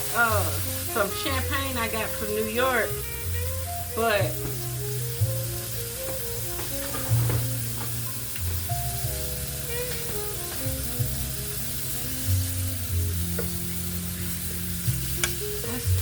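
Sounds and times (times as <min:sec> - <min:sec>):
background music with bass line: 0:00.0 - 0:16.0
food sizzling in a frying pan: 0:00.0 - 0:16.0.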